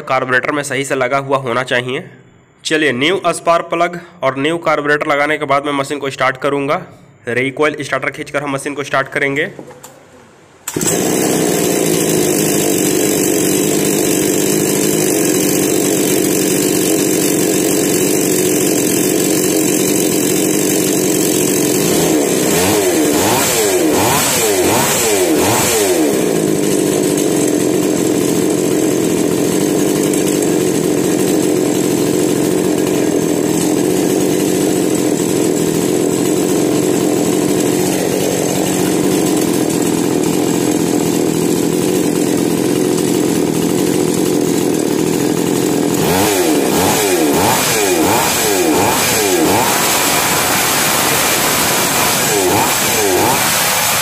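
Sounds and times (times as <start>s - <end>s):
chainsaw engine revving and idling: 10.7s - 54.0s.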